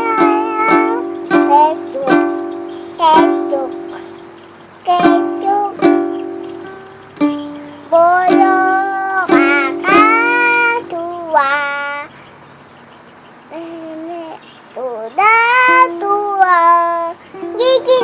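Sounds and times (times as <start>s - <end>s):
ukulele strummed: 0.0s - 12.0s, 15.2s - 18.0s
high voice singing: 0.0s - 12.2s, 13.5s - 18.0s.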